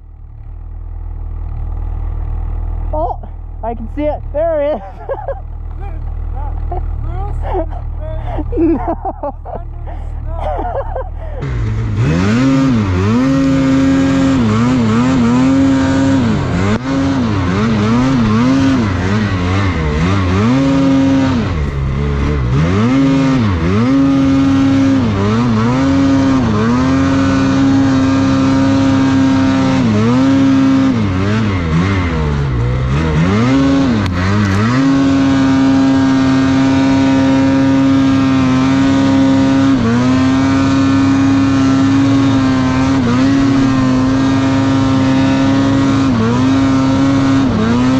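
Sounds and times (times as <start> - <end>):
snowmobile engine revving: 2.5 - 47.9.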